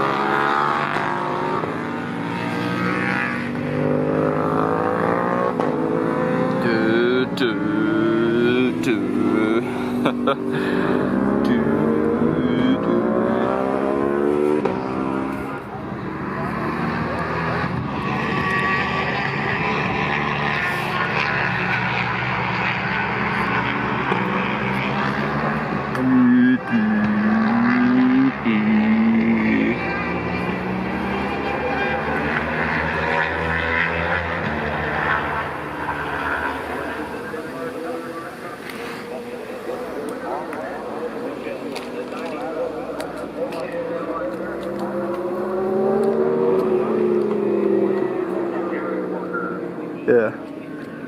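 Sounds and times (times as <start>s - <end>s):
racing motorcycles passing: 0.0s - 51.0s.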